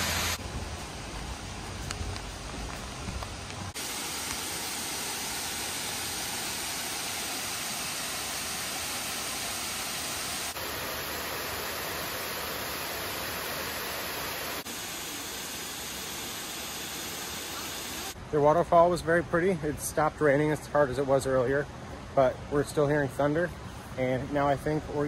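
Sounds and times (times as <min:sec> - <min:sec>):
waterfall: 0:00.0 - 0:25.0.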